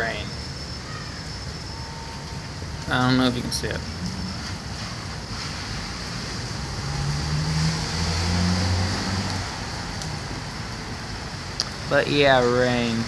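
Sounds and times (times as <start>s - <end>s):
rain hissing: 0.0s - 13.0s
vehicle passing on wet road: 2.0s - 13.0s.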